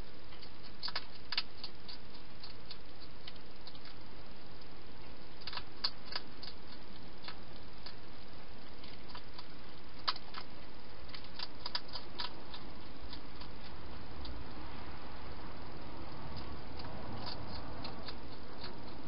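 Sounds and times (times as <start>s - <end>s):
hedgehog chewing clicks: 0.3s - 14.6s, 15.6s - 19.0s.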